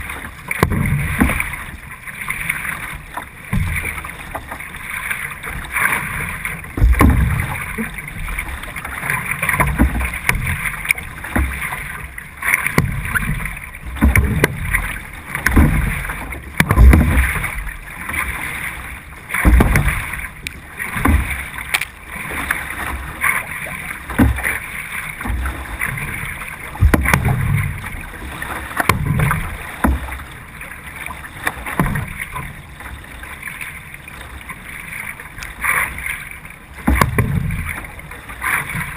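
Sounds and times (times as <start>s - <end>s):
paddle strokes pulling through water: 0.0s - 38.9s
water hissing along hull: 0.0s - 38.9s.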